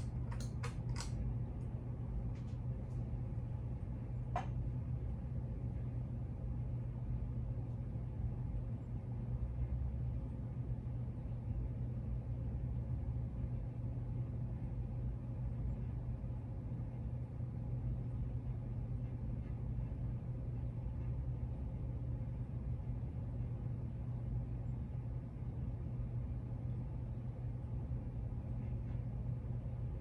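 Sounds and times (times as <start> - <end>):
ceiling fan humming: 0.0 - 30.0.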